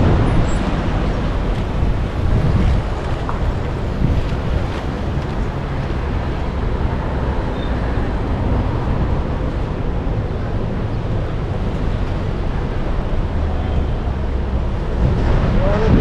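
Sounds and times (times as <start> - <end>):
wind on microphone: 0.0 - 16.0
traffic going by: 0.8 - 15.5.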